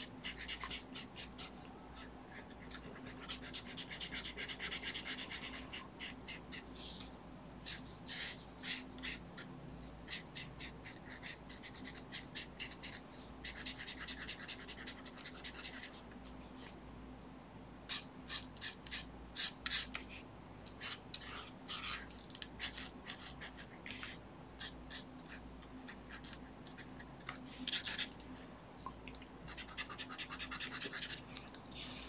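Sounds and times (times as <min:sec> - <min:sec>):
marker scratching on paper: 0:00.1 - 0:06.7, 0:07.6 - 0:09.5, 0:10.1 - 0:16.0, 0:17.9 - 0:20.2, 0:20.8 - 0:28.1, 0:29.5 - 0:31.2.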